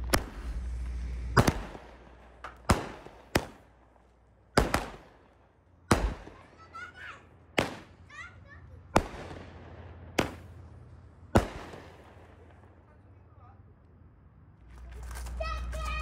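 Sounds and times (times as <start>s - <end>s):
firework cake sharp bangs: 0.0s - 13.0s.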